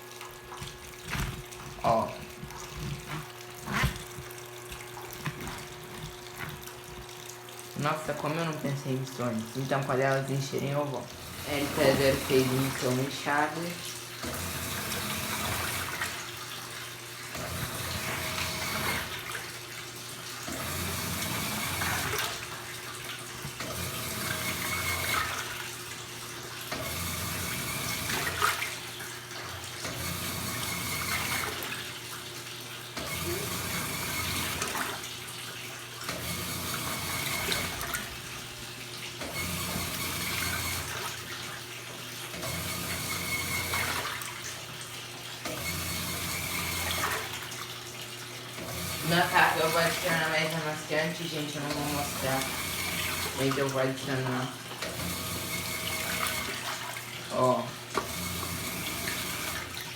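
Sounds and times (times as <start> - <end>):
washing machine filling with water: 0.0 - 59.9.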